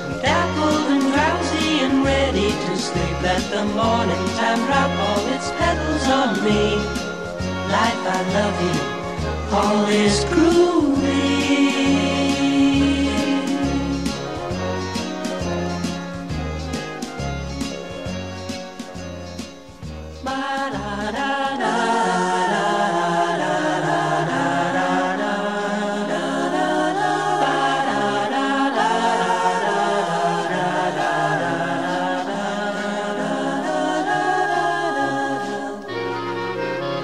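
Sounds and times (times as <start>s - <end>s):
choir singing held chords: 0.0s - 19.5s, 20.1s - 37.0s
background music: 0.0s - 37.0s.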